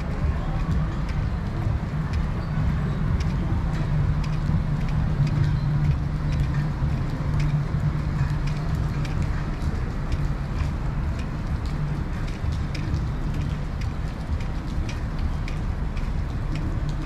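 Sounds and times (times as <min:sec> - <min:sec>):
rain falling: 0:00.0 - 0:17.0
steady low rumble and hum: 0:00.0 - 0:17.0.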